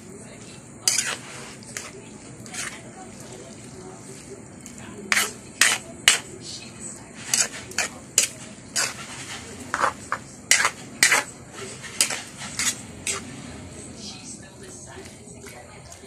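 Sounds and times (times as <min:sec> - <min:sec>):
spatula scraping a wok: 0:00.4 - 0:13.9.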